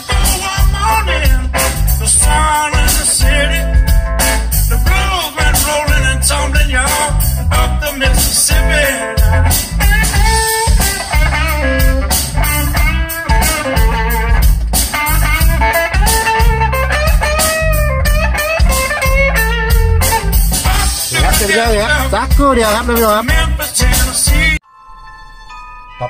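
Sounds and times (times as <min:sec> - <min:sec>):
blues music over car speakers: 0:00.0 - 0:24.7.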